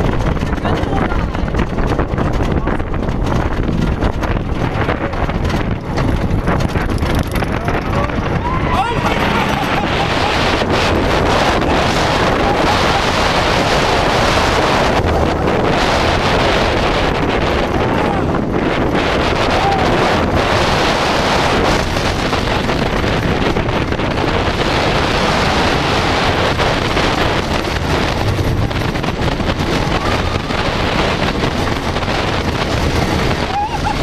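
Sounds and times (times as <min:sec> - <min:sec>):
roller coaster rumbling on track: 0:00.0 - 0:34.0
wind rushing over microphone: 0:00.0 - 0:34.0.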